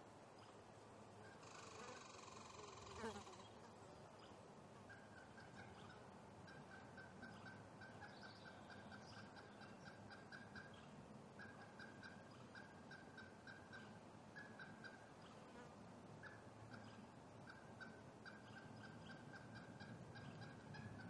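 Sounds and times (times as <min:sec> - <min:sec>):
low outdoor hiss: 0:00.0 - 0:21.0.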